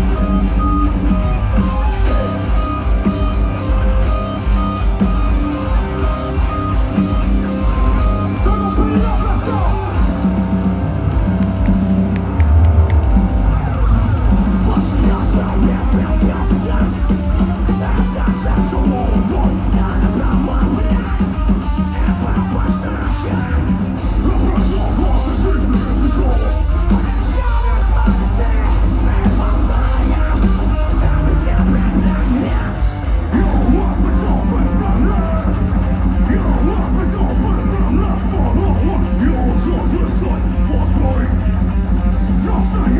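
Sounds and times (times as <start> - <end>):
live metal band playing: 0.0 - 42.9.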